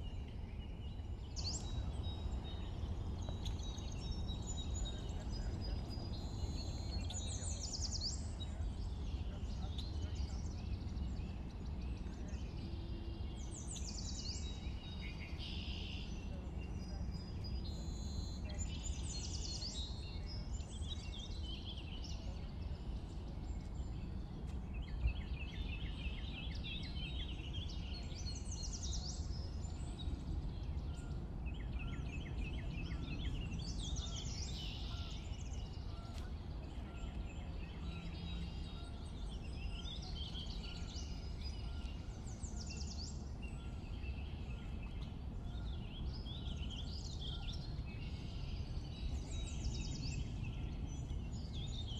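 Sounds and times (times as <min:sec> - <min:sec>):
birds singing and calling: 0:00.0 - 0:51.9.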